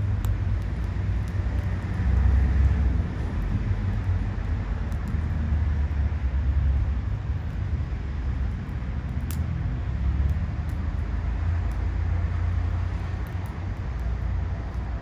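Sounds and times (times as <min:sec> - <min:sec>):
fire low rumble: 0:00.0 - 0:15.0
firewood crackling: 0:00.0 - 0:15.0.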